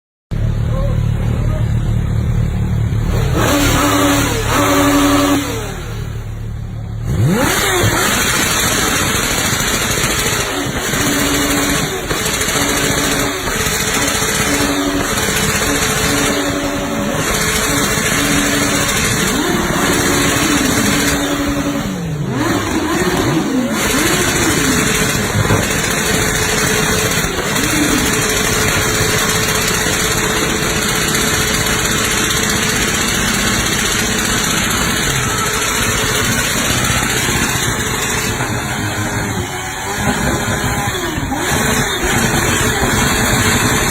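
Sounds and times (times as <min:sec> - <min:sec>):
motorcycle engine revving: 0:00.3 - 0:43.9.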